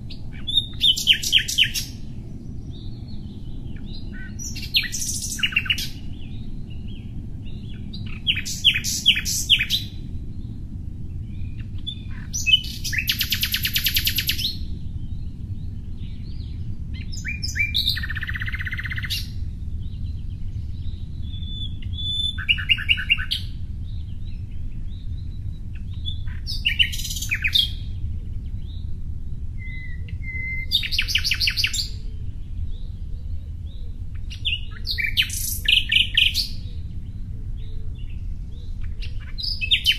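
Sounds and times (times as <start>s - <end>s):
small birds chirping and trilling: 0.0s - 39.9s
steady low hum: 0.0s - 39.9s.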